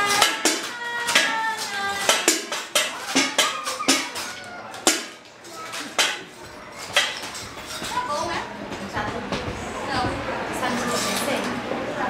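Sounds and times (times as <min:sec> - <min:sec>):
banging on junk containers: 0:00.0 - 0:10.2.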